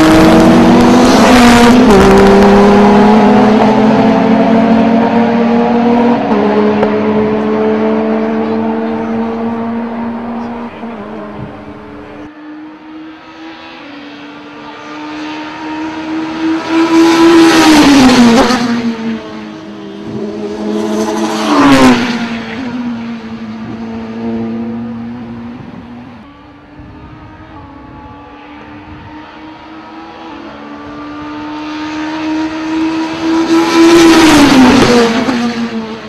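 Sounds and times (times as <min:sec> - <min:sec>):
distant race car engines: 0:00.0 - 0:36.0
race cars passing at high revs: 0:00.0 - 0:36.0.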